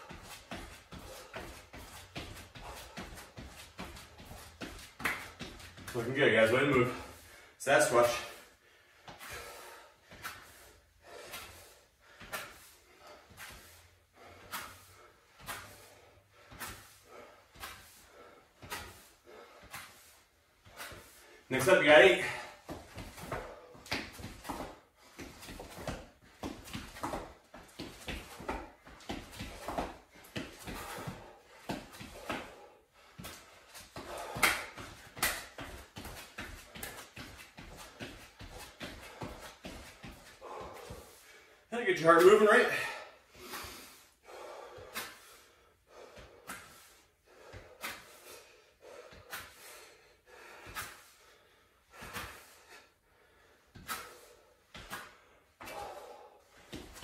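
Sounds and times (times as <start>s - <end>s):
person breathing hard: 0.0s - 5.9s, 6.8s - 21.5s, 22.1s - 41.7s, 42.6s - 57.0s.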